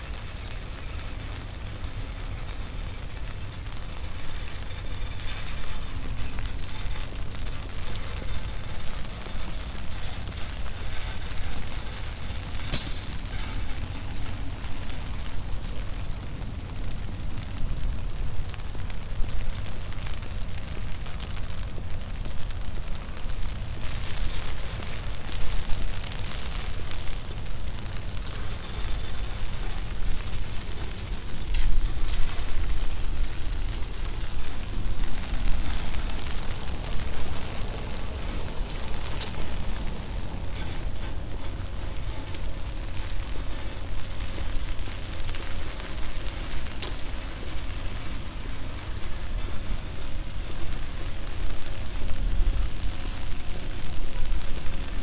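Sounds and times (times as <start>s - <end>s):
low rumble: 0.0s - 55.0s
rain patter: 0.0s - 55.0s.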